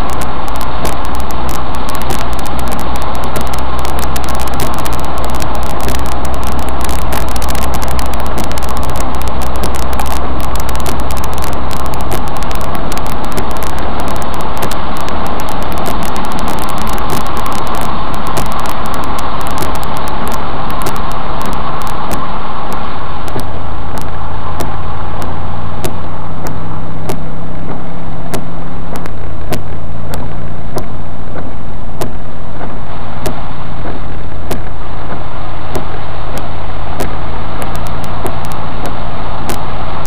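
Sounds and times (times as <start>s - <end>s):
sharp ticks: 0.0s - 39.7s
car engine running: 0.0s - 40.0s
water spraying from tyres: 0.0s - 40.0s.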